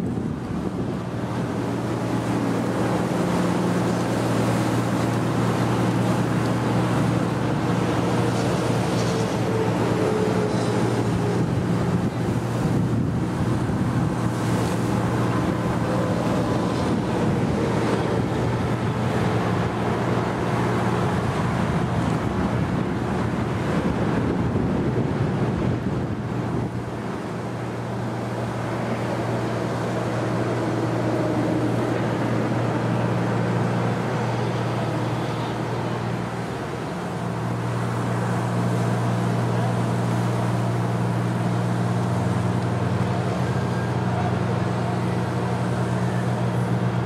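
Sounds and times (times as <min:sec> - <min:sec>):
steady rushing noise: 0:00.0 - 0:47.0.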